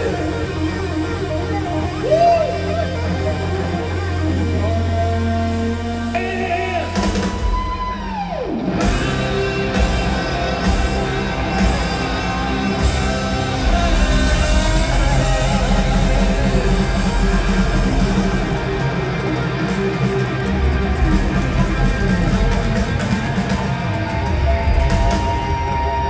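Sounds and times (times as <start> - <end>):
electric guitar: 0.0 - 26.0
live rock band playing: 0.0 - 26.0.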